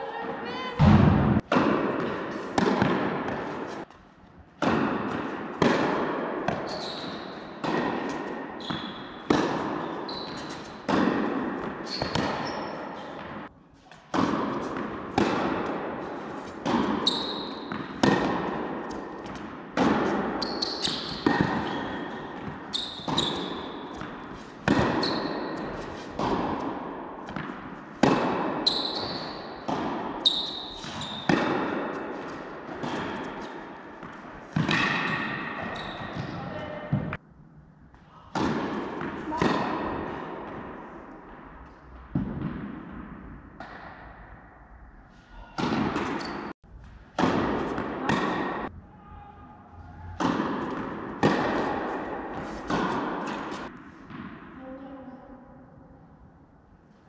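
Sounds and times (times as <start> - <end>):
tennis ball struck by rackets: 0.8 - 3.9, 4.6 - 37.2, 38.3 - 44.5, 45.6 - 46.5, 47.2 - 48.7, 50.1 - 54.5
tennis ball bouncing on court: 0.8 - 4.0, 4.6 - 37.2, 38.3 - 44.2, 45.6 - 46.5, 47.2 - 48.7, 50.2 - 54.6.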